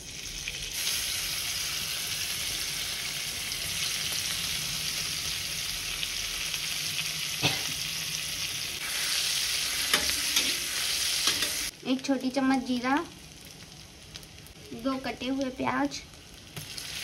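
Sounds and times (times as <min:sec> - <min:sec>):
chillies sizzling in a pan: 0:00.0 - 0:17.0.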